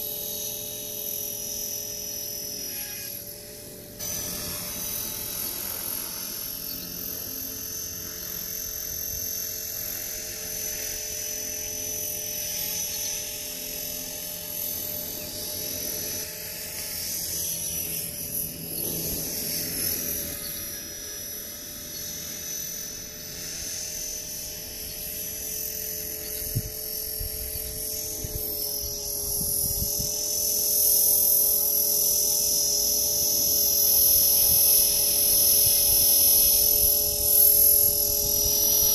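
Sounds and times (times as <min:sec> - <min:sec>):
rc helicopter whine and rotor buzz: 0:00.0 - 0:38.9.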